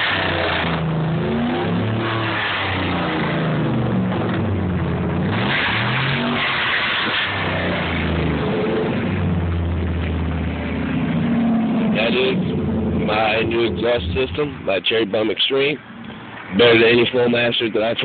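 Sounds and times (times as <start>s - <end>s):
pickup engine revving: 0.0s - 18.0s.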